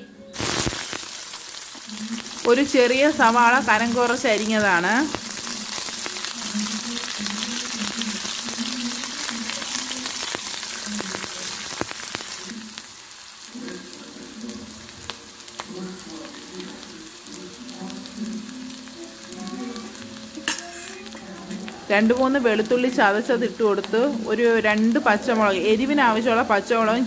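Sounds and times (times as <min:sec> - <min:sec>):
onion sizzling in oil: 0:00.2 - 0:27.0.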